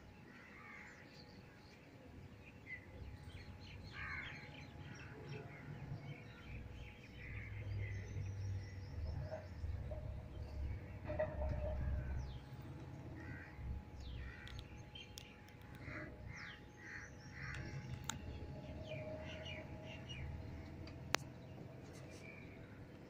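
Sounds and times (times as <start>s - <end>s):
birds calling: 3.6s - 22.8s.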